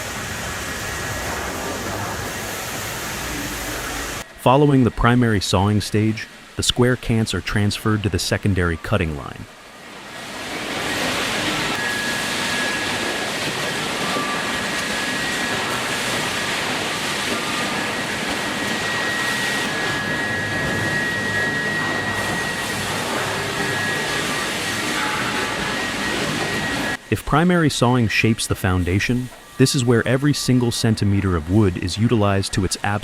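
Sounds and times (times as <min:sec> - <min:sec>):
sawmill machinery running: 0:00.0 - 0:33.0
thin high whine: 0:00.0 - 0:33.0.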